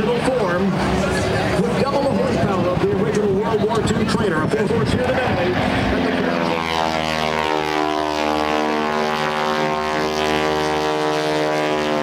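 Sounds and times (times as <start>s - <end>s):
biplane engine droning: 0.0s - 12.0s.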